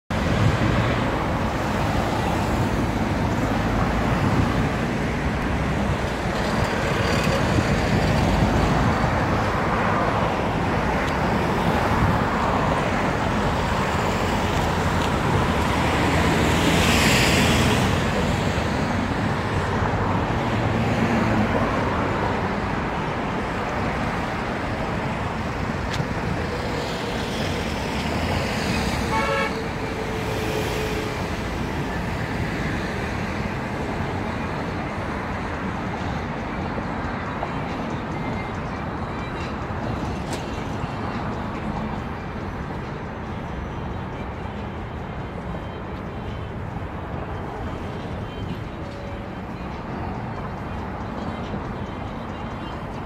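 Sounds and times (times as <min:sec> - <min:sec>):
road traffic noise: 0:00.1 - 0:53.0.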